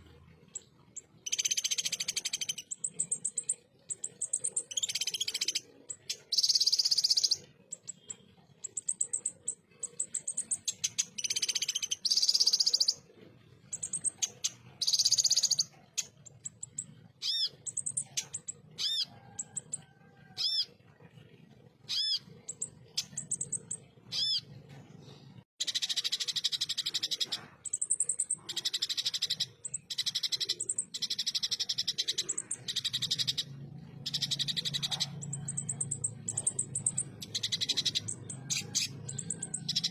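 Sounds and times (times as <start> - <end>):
bird singing high-pitched trills: 0.0 - 13.1, 13.7 - 19.8, 20.4 - 20.7, 21.9 - 24.5, 25.6 - 39.9.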